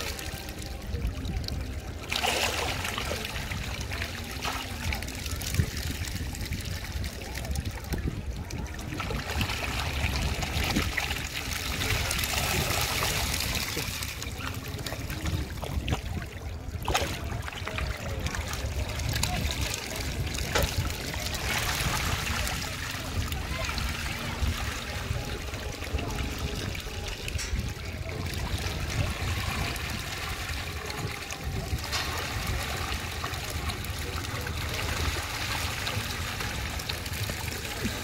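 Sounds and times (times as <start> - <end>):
fish splashing at water surface: 0.0 - 38.0.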